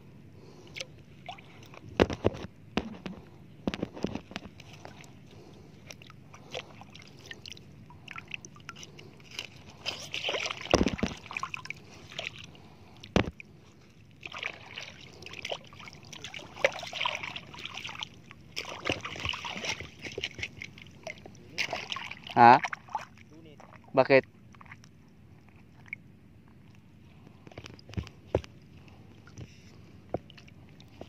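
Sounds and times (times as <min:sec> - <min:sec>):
seawater sloshing and lapping: 0:00.4 - 0:31.0.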